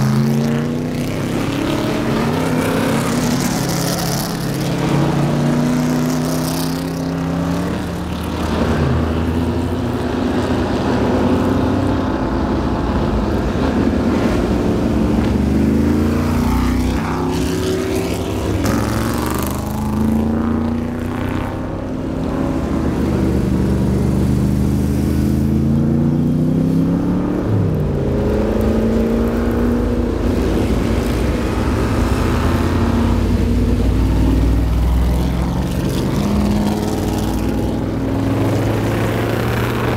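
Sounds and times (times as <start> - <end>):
cars driving past: 0.0 - 39.9
race car engines revving: 0.0 - 39.9.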